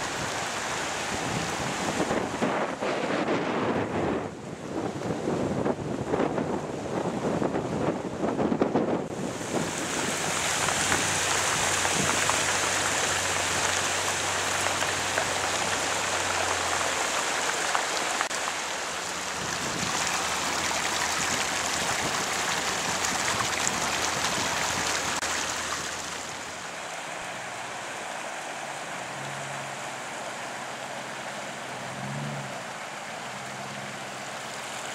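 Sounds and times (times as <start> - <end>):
heavy rain and floodwater rushing: 0.0 - 34.9.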